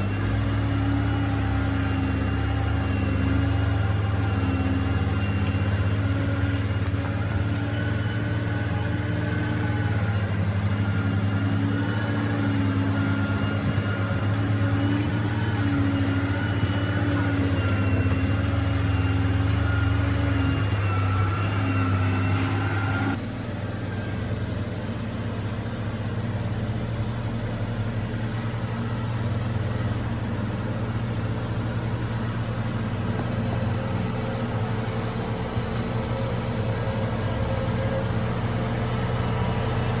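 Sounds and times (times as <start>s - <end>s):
diesel engine of heavy machinery: 0.0s - 40.0s.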